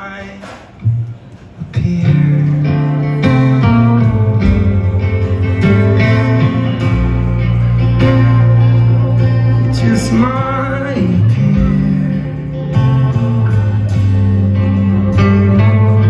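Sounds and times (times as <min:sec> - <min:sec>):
acoustic guitar strumming: 0:00.0 - 0:16.0
keyboard: 0:00.0 - 0:16.0
electric bass: 0:01.8 - 0:16.0.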